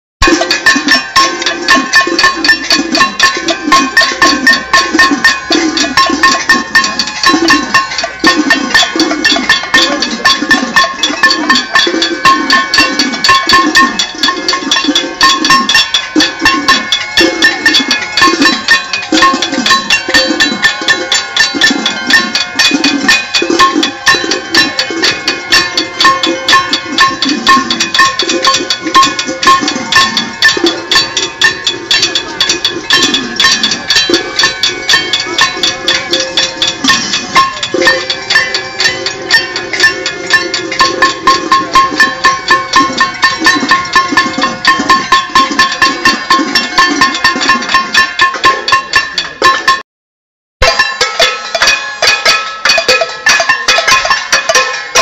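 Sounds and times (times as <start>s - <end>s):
steady low beat: 0.2s - 49.6s
pots and pans banging: 0.2s - 49.8s, 50.6s - 55.0s.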